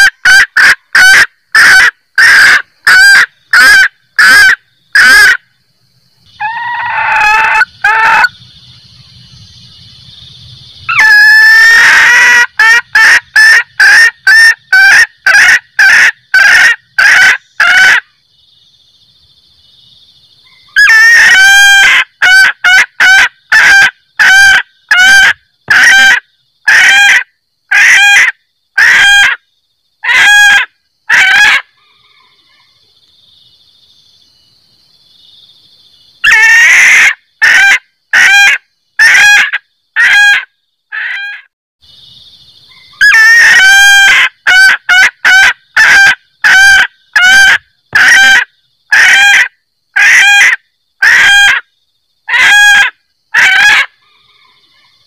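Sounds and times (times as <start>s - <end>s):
hen cackling: 0.0s - 5.4s, 6.3s - 8.4s, 10.9s - 18.1s, 20.5s - 29.4s, 30.0s - 32.8s, 36.2s - 41.5s, 42.7s - 55.0s.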